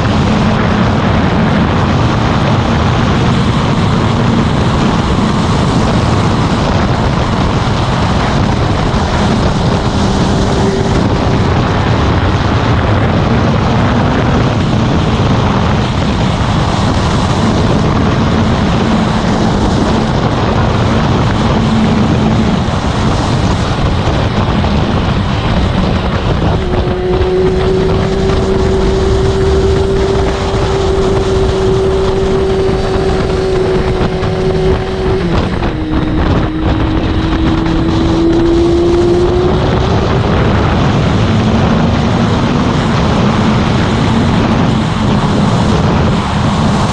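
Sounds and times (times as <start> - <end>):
motorcycle engine: 0.0 - 46.9
wind rush on microphone: 0.0 - 46.9.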